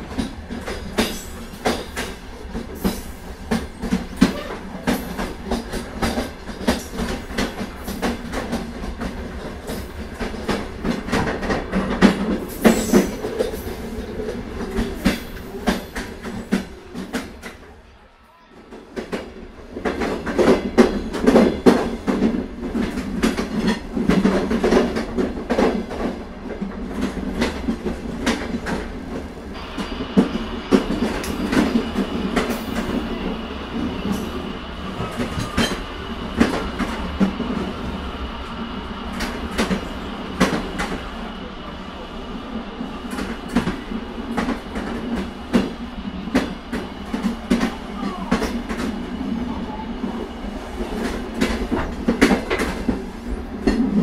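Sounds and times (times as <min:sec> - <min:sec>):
train wheels clicking over rail joints: 0:00.0 - 0:17.6, 0:18.9 - 0:41.1, 0:43.0 - 0:49.1, 0:50.6 - 0:54.0
low steady train hum: 0:00.0 - 0:54.0.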